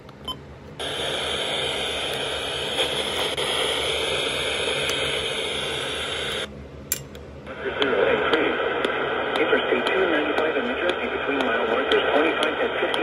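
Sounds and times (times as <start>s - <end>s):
radio static hiss: 0.8s - 6.5s, 7.5s - 13.0s.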